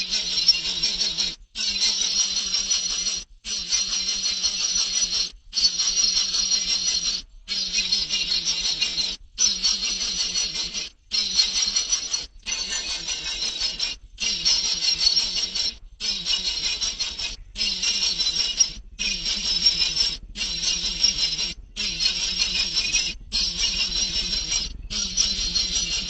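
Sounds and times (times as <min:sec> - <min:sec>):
baby birds chirping: 0:00.0 - 0:26.0.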